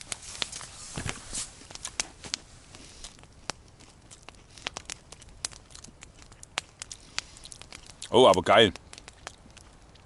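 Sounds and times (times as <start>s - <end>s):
campfire crackling: 0.0s - 10.0s
rustle: 0.0s - 10.0s.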